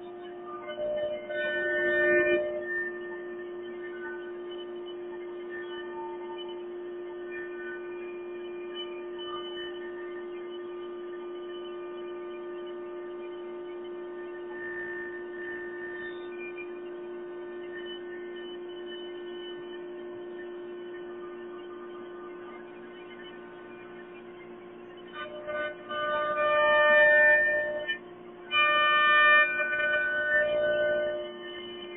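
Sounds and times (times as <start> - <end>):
cnc router humming: 0.0 - 31.9.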